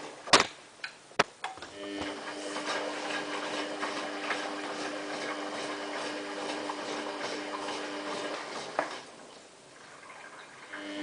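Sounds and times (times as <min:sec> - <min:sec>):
washing machine humming and ticking: 0:01.7 - 0:11.0.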